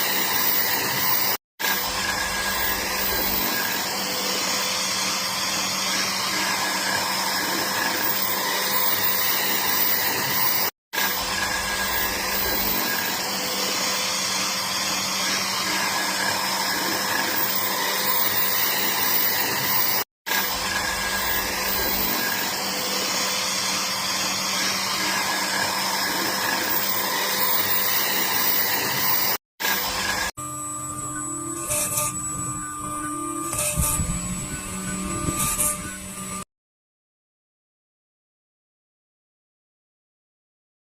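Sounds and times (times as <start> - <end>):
power tool motor whirring: 0.0 - 36.4.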